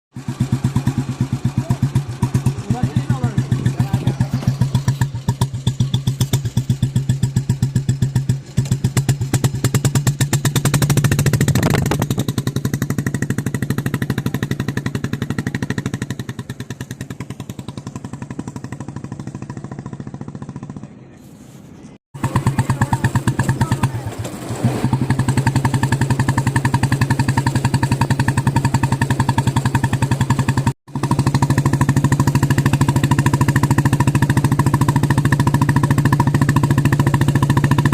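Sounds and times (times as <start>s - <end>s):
motorcycle engine thumping: 0.1s - 21.0s, 22.1s - 37.9s.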